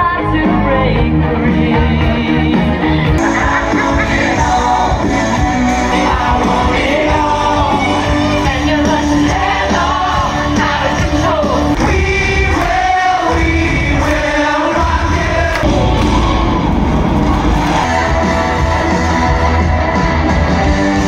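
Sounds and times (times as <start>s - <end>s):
pop song with singing: 0.0s - 21.0s.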